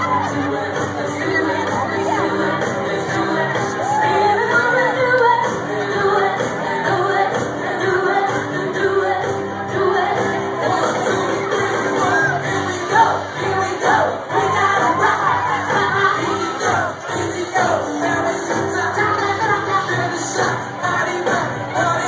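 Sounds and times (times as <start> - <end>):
crowd shouting and singing along: 0.0 - 22.0
loud live music with singing: 0.0 - 22.0.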